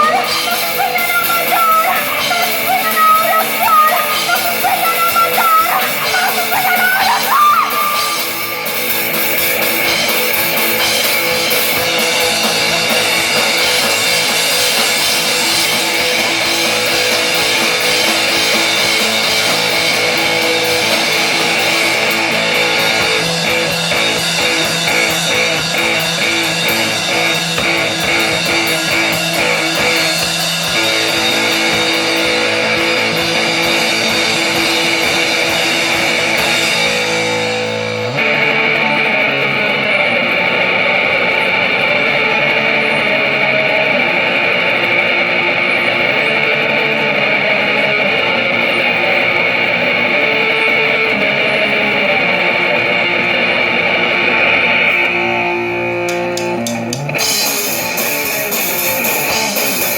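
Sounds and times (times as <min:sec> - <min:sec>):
drums and cymbals: 0:00.0 - 0:59.9
electric guitar: 0:00.0 - 0:59.9.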